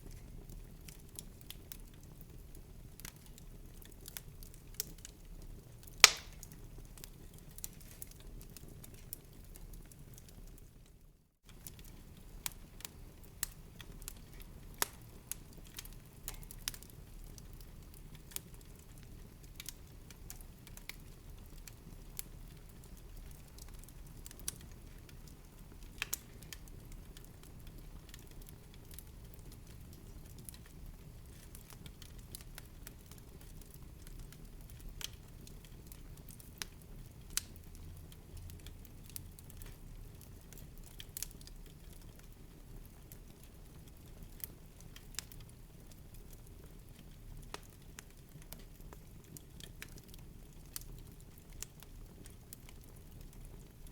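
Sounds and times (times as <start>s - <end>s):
low rumble of burning: 0.0s - 53.9s
wood fire crackling: 0.0s - 53.9s.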